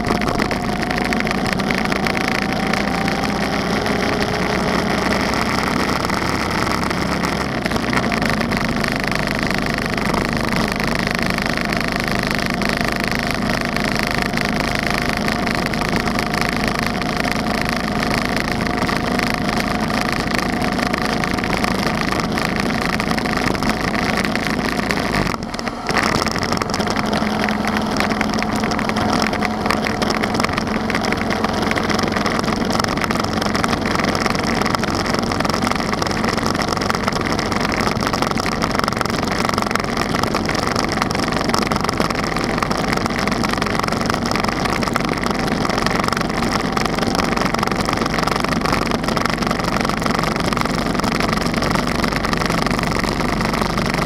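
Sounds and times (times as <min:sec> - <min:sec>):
motorcycle engine cruising: 0:00.0 - 0:54.0
wind noise: 0:00.0 - 0:54.0.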